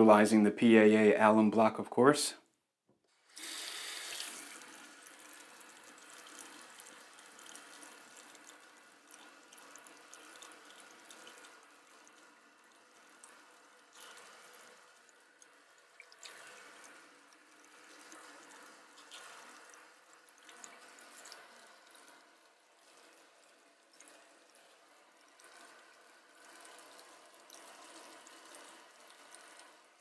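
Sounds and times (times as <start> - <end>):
tap water running into sink: 3.3 - 29.9
water drips: 3.7 - 30.0.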